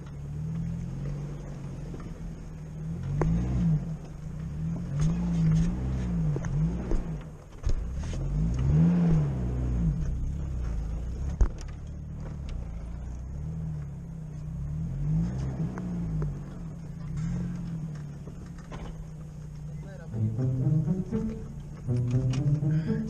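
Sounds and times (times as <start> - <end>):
van engine revving under load: 0.0 - 23.0.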